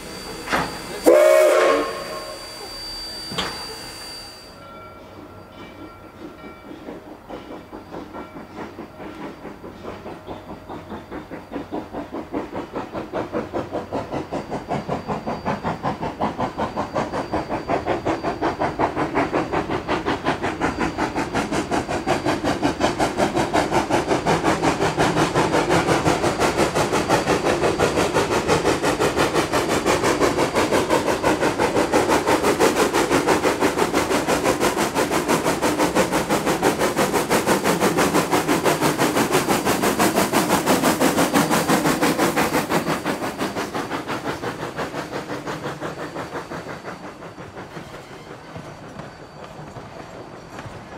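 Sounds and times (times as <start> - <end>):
steam locomotive exhaust chuffs: 0.0 - 50.9.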